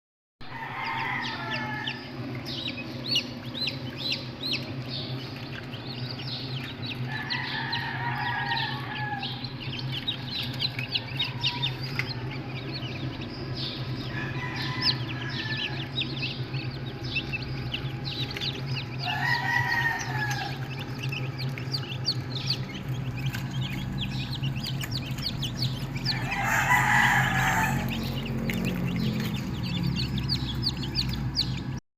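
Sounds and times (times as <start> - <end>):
chicks peeping: 0.4 - 31.8
roosters crowing: 0.4 - 31.8
low hum: 0.6 - 31.8.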